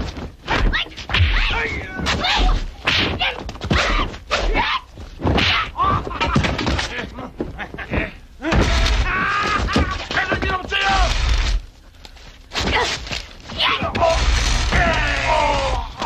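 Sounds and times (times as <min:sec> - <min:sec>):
fighters shouting and grunting: 0:00.5 - 0:07.1, 0:07.8 - 0:11.3, 0:12.6 - 0:16.0.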